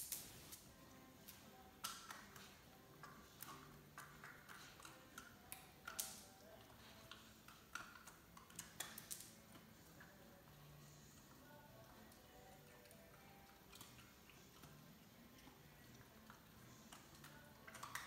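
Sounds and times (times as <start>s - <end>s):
puppy claws clicking on floor: 0.0s - 10.6s, 11.2s - 18.0s.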